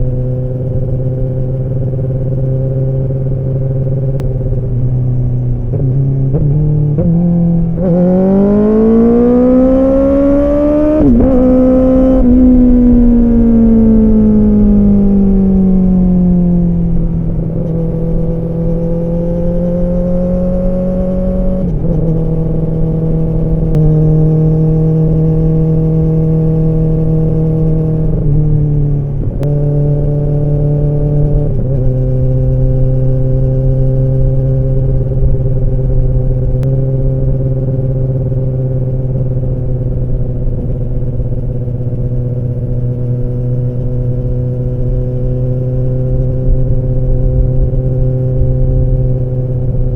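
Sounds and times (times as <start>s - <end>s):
motorcycle exhaust in a tunnel: 0.0s - 49.9s.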